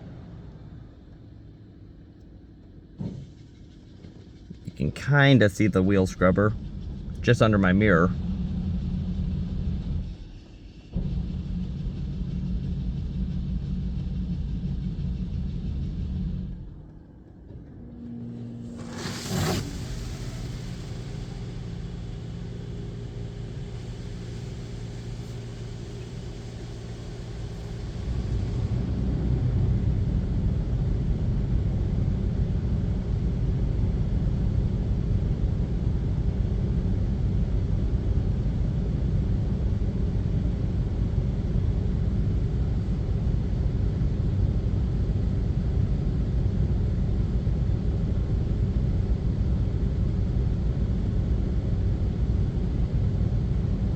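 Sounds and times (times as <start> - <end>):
dense rumble of spray: 4.4 - 16.6, 17.8 - 53.9
steady hum: 4.4 - 53.9.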